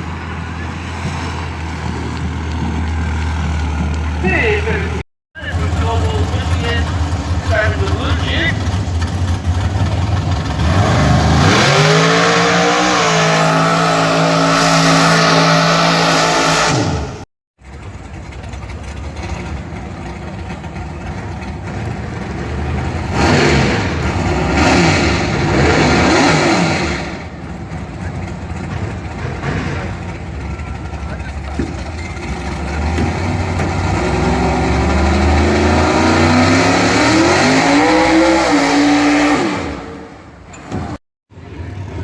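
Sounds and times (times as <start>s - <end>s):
vehicle engine revving: 0.0s - 42.0s.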